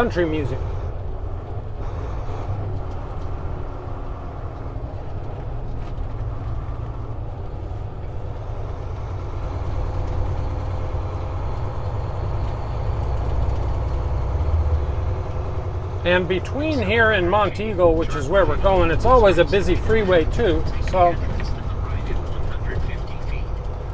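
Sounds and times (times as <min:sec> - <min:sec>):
road noise: 0:00.0 - 0:23.9
truck diesel engine rumbling: 0:00.0 - 0:23.9.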